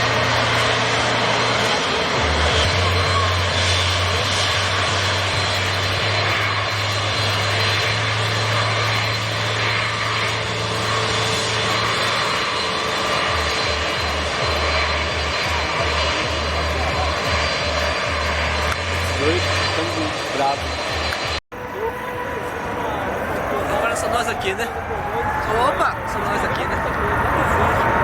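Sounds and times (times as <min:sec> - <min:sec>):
jet engines on take-off: 0:00.0 - 0:28.0.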